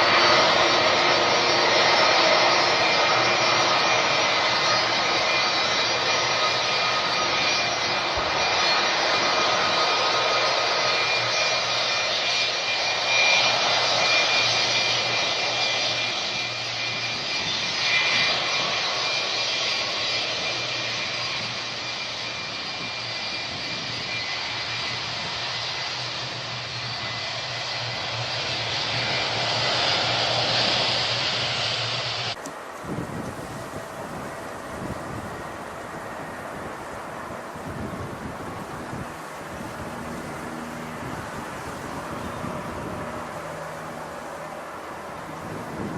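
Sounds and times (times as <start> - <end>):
aircraft engines running: 0.0 - 45.9.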